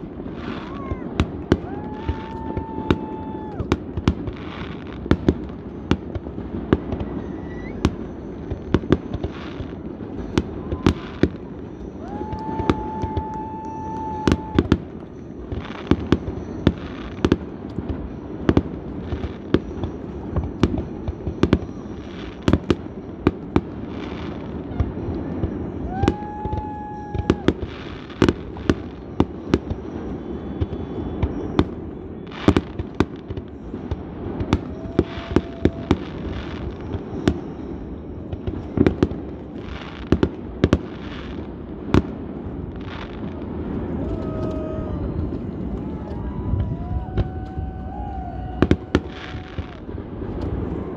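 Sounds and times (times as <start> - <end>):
fireworks shells bursting: 0.0 - 50.9
steady background noise: 0.0 - 50.9.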